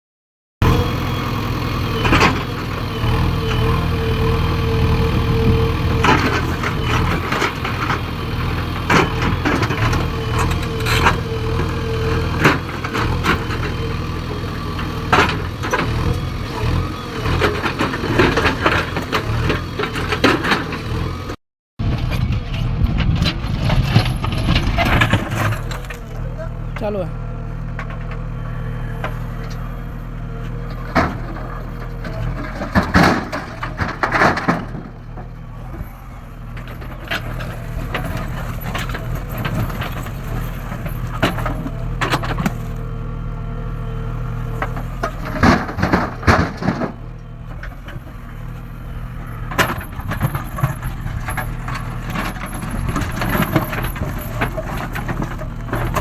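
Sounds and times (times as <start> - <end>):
heavy diesel engine running: 0.6 - 56.0.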